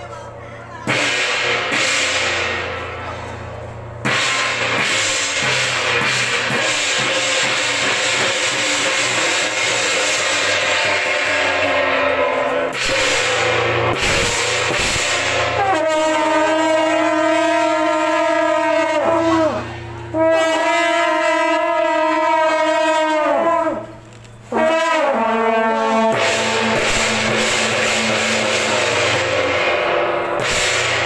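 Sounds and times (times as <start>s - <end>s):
wind instruments long notes: 0.0s - 31.0s.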